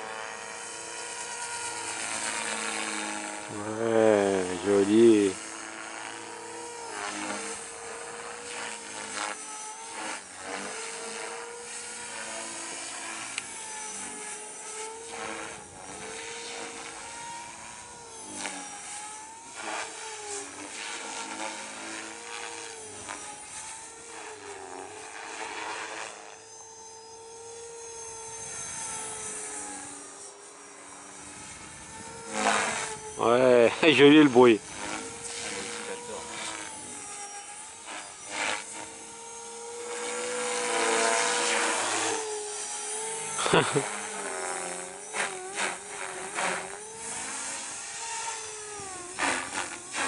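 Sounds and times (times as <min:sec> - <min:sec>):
rc helicopter rotor whine: 0:00.0 - 0:50.0.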